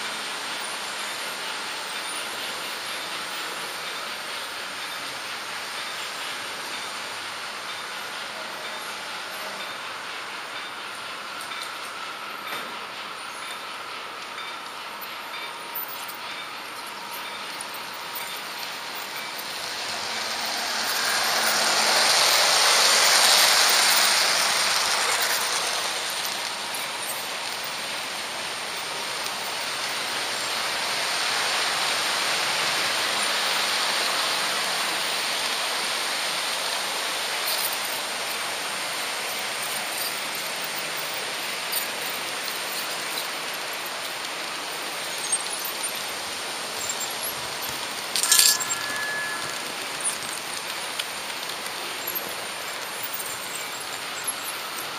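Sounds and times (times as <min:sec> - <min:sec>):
model train clattering over turnouts: 0:00.0 - 0:54.9
model train wheels hissing on rails: 0:00.0 - 0:54.9.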